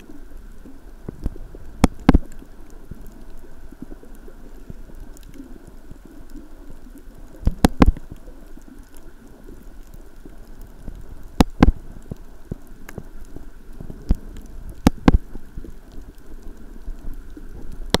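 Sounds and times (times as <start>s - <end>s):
muffled underwater rumble: 0.0s - 18.0s
sharp clicks underwater: 0.0s - 18.0s.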